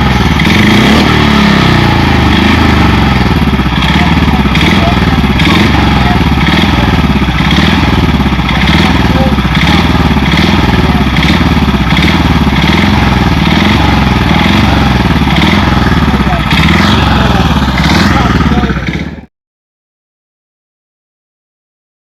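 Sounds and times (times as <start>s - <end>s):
motorcycle engine running: 0.0s - 19.3s.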